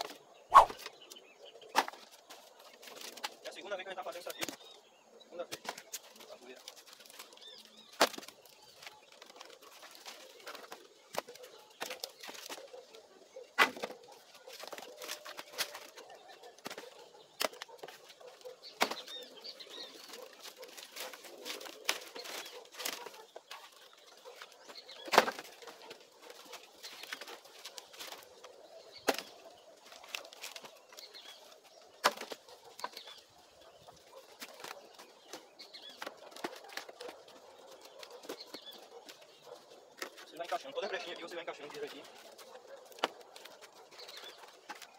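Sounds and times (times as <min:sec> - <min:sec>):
wooden logs knocking and clattering: 0:00.0 - 0:04.8, 0:05.4 - 0:44.9.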